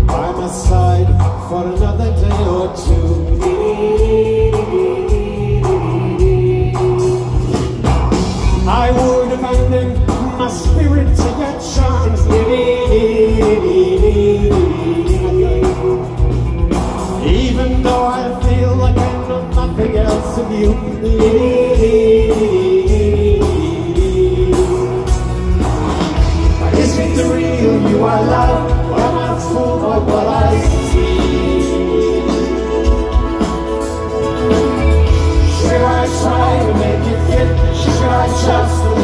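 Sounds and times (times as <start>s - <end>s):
man singing: 0.0s - 7.1s, 8.5s - 16.4s, 17.2s - 25.6s, 26.4s - 33.8s, 35.0s - 39.0s
rock band playing: 0.0s - 39.0s.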